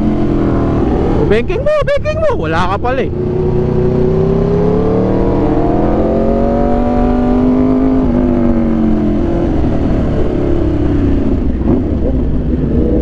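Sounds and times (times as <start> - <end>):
motorcycle engine revving: 0.0 - 1.6, 2.5 - 13.0
road rumble: 0.0 - 13.0.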